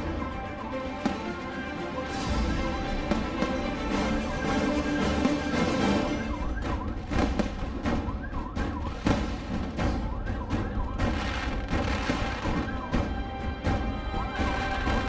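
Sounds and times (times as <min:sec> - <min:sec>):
firecrackers cracking: 0:00.0 - 0:15.0
fireworks whistling: 0:00.0 - 0:15.0
loud music: 0:00.0 - 0:15.0.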